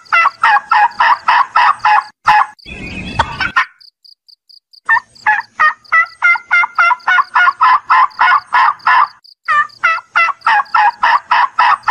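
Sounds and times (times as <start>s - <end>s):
turkey yelping: 0.1s - 3.8s, 4.9s - 11.9s.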